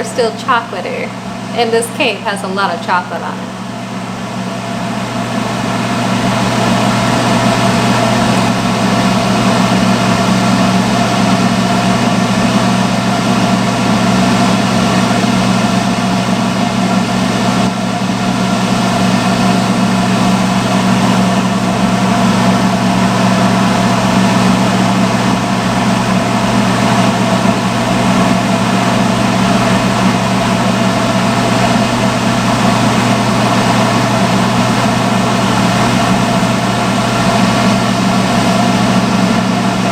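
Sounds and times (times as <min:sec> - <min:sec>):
hair dryer motor and fan hum: 0:00.0 - 0:39.9.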